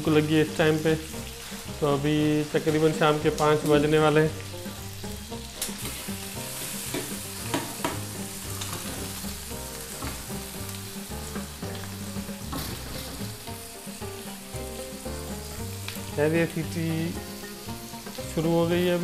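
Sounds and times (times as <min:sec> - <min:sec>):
fries sizzling in hot oil: 0:00.0 - 0:19.0.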